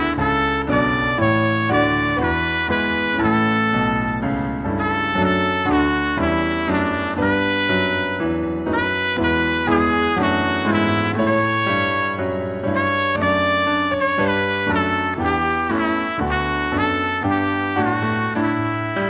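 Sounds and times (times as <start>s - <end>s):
brass music led by trumpet: 0.0s - 19.0s.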